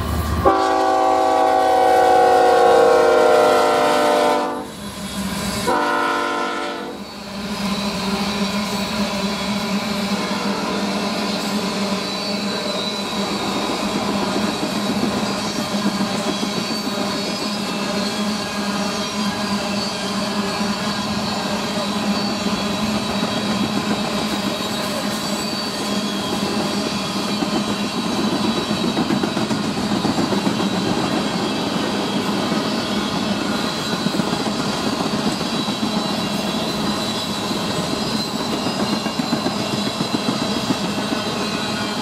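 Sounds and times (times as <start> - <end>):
train wheels clattering on rails: 7.6 - 42.0.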